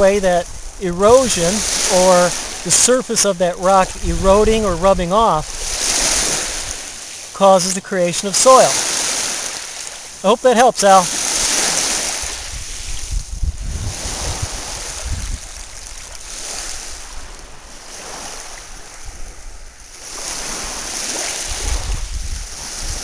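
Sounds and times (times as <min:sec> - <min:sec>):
wind rumbling on microphone: 0:00.0 - 0:07.7, 0:10.9 - 0:23.0
waves washing over pebbles: 0:00.0 - 0:23.0.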